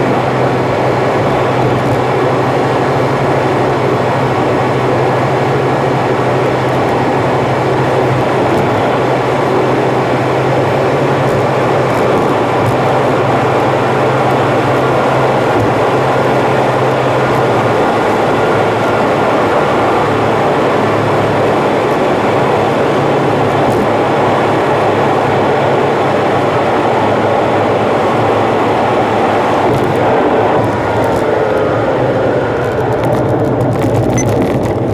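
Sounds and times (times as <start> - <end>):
car road and engine noise: 0.0 - 34.9.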